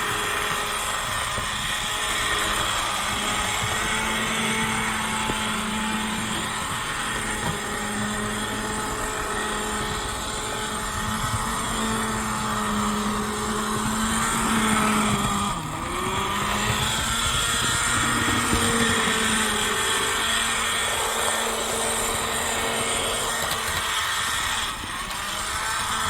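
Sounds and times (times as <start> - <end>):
model train motor humming: 0.0 - 26.0.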